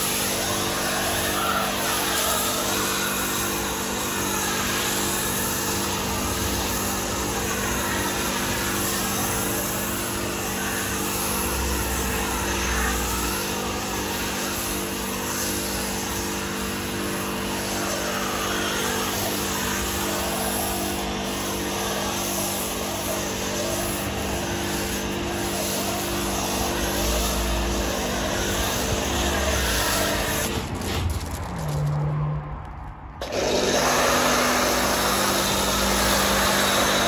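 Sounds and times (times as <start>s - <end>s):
foam lance hissing: 0.0s - 31.8s
pressure washer humming: 0.0s - 31.9s, 33.2s - 37.0s.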